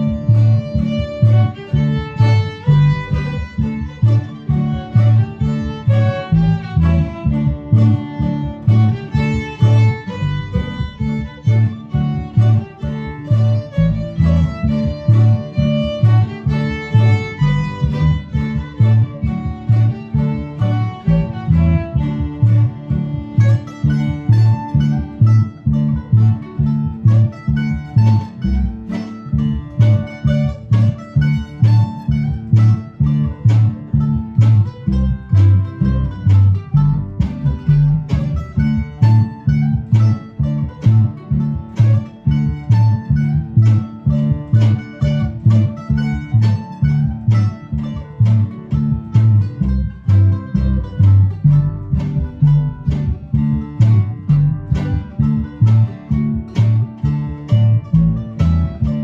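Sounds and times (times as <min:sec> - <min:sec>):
acoustic guitar: 0:00.0 - 0:59.0
fiddle: 0:00.0 - 0:59.0.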